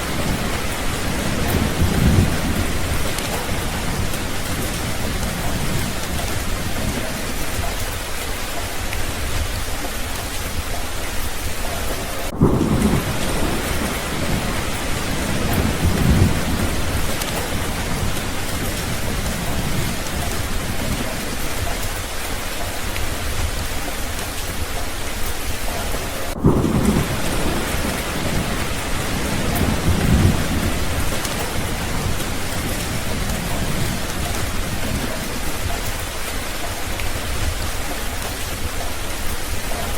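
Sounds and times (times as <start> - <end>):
low rolling thunder: 0.0 - 7.8, 11.4 - 39.9
heavy rain: 0.0 - 39.9.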